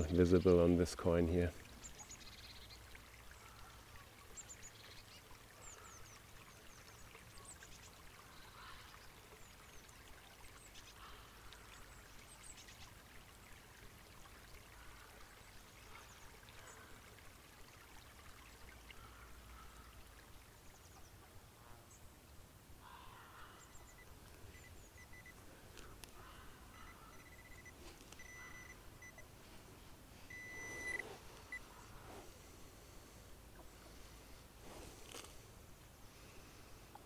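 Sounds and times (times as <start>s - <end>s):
faint outdoor ambience: 0.0s - 37.0s.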